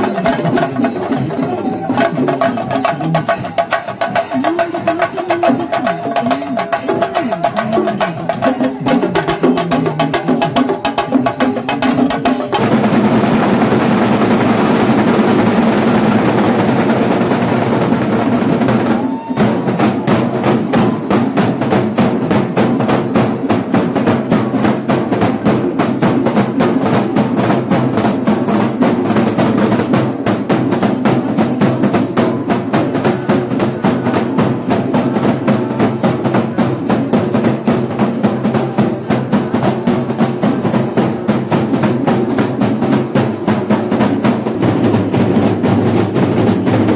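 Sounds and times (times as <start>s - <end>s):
chenda drums: 0.0s - 46.9s.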